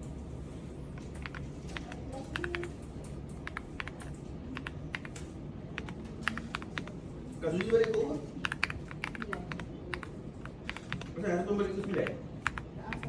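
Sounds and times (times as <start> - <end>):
low steady hum: 0.0 - 13.0
mechanical keyboard keystrokes: 1.0 - 6.9, 7.6 - 11.2, 11.8 - 13.0.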